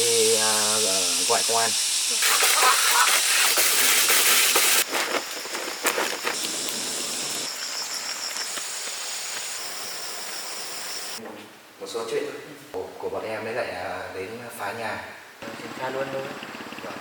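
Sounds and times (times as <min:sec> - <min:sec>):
steady hissing noise: 0:00.0 - 0:16.0.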